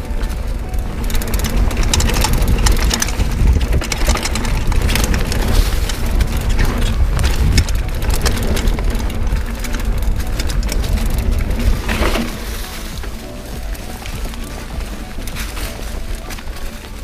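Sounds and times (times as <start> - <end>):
bike tyres rattling on stones: 0.0 - 17.0
low rumble: 0.0 - 17.0.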